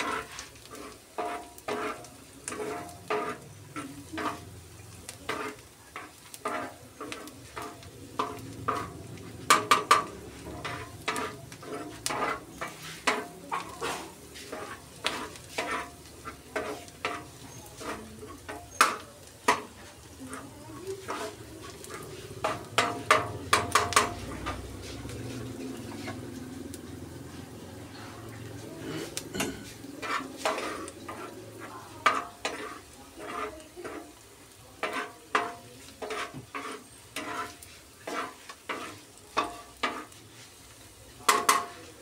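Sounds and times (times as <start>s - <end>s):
metal spatula scraping on griddle: 0.0s - 42.0s
soft sizzle: 0.0s - 42.0s.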